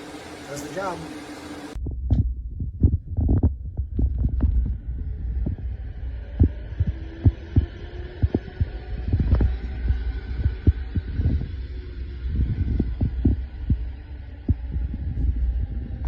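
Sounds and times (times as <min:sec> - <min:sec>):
exhaust fan humming: 0:00.0 - 0:01.8, 0:03.5 - 0:16.0
low thumps: 0:01.8 - 0:16.0.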